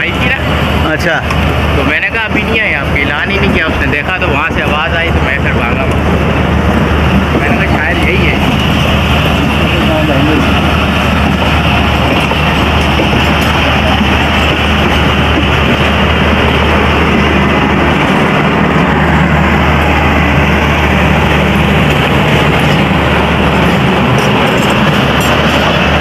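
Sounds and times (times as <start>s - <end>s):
passenger train rumbling on track: 0.0s - 26.0s.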